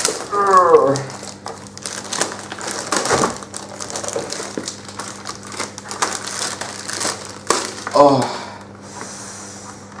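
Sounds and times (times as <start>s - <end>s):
packaging being torn open: 0.0s - 8.2s.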